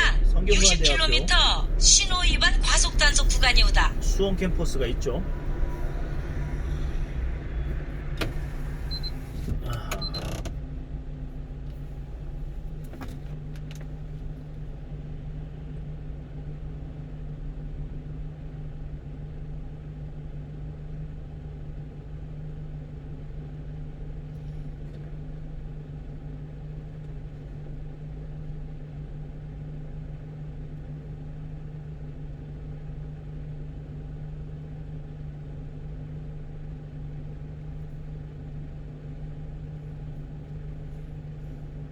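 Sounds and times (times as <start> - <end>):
truck engine and road noise: 0.0 - 31.3, 32.5 - 41.9.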